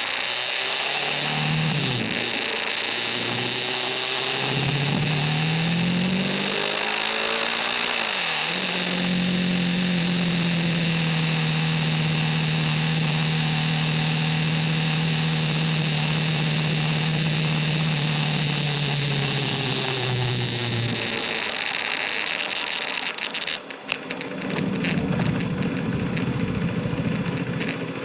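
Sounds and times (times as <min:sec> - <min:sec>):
motorcycle engine running: 0:00.0 - 0:28.0
wind and road noise hiss: 0:00.0 - 0:28.0.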